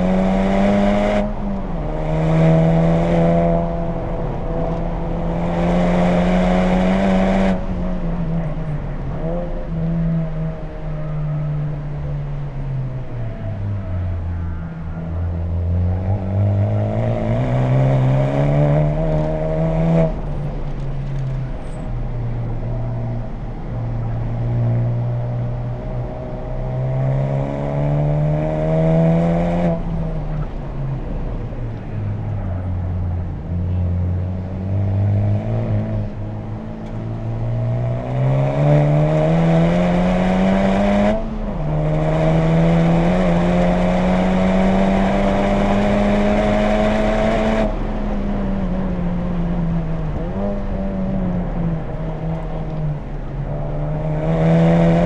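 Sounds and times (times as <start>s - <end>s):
car engine at full throttle: 0.0s - 55.0s.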